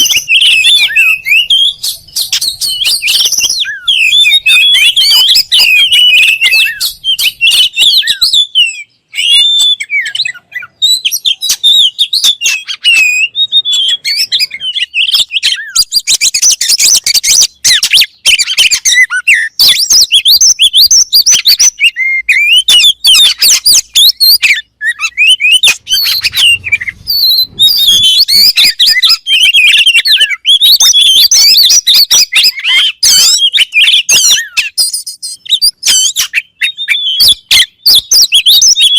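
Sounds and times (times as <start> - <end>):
bird singing whistles and chirps: 0.0 - 38.9.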